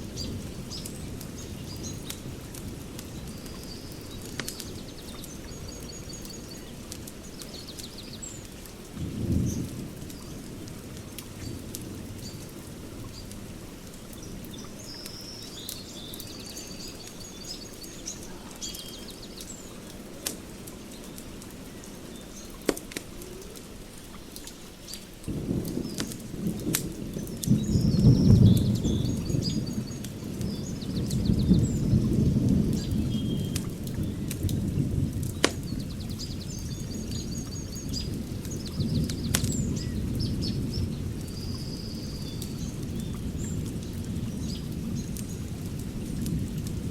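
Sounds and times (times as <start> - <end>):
wood fire crackling: 0.0 - 41.6
birds chirping: 0.1 - 45.5.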